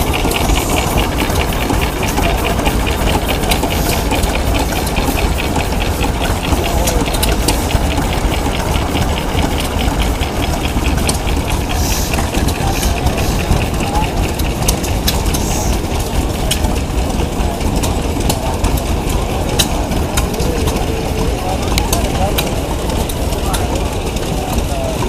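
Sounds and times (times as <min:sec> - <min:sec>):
low mechanical rumble: 0:00.0 - 0:25.0
steam engine exhaust chuffing: 0:00.0 - 0:25.0.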